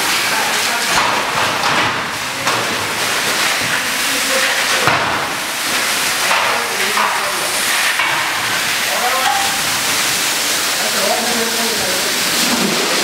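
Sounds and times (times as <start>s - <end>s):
fire hose water jet spraying: 0.0s - 13.0s.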